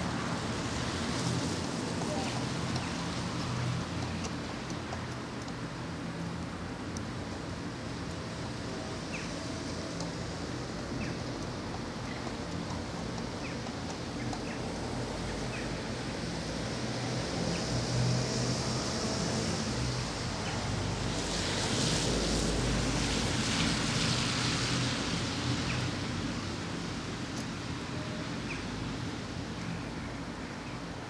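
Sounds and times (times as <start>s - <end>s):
car tyres hissing on wet road: 0.0s - 4.6s, 5.8s - 29.6s.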